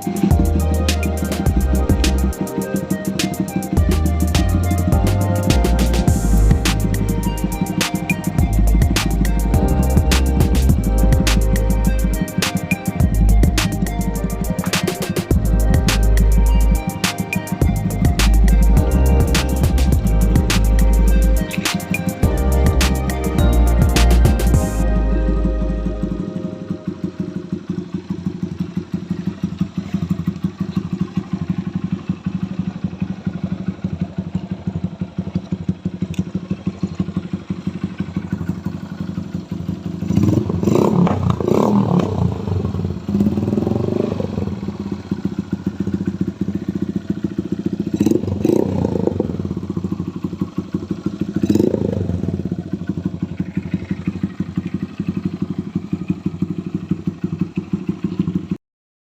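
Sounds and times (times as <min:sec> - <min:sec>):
motorcycle engine idling: 0:00.0 - 0:58.6
motorcycle engine revving: 0:00.0 - 0:58.6.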